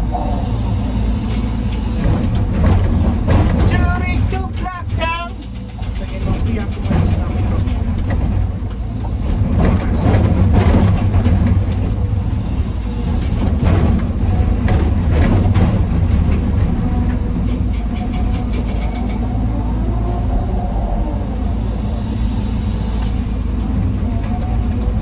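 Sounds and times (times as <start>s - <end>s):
diesel machinery droning: 0.0s - 25.0s.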